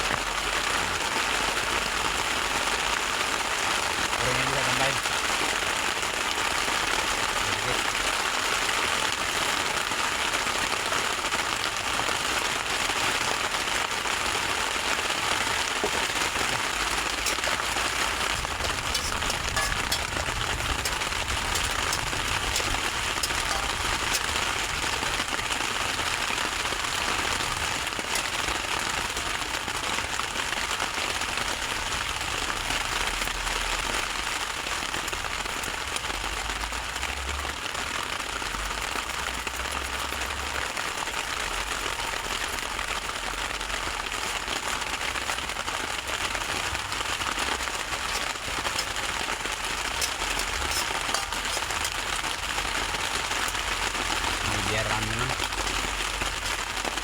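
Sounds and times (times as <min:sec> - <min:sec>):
rice sizzling in a pan: 0:00.0 - 0:57.0.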